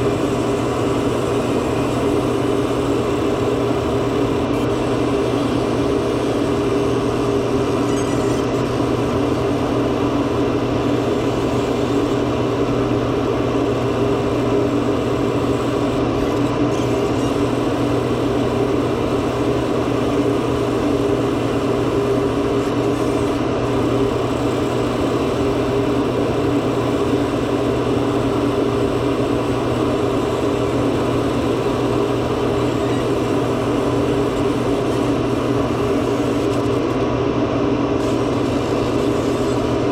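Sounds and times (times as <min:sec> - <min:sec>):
machine hum with drone: 0:00.0 - 0:39.9.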